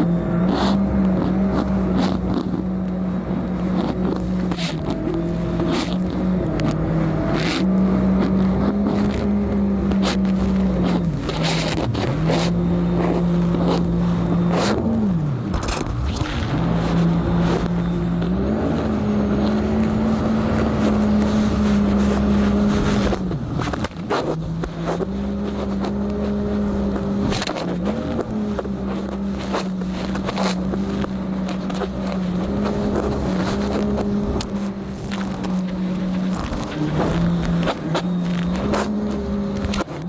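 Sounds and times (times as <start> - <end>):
jet ski engine droning: 0.0 - 40.0.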